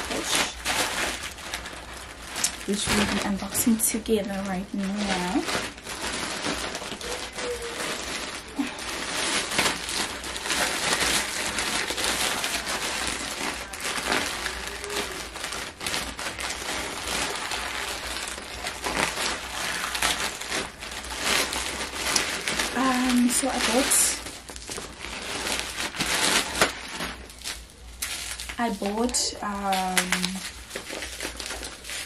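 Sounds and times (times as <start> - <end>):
plastic mailer bag crinkling: 0.0 - 32.0.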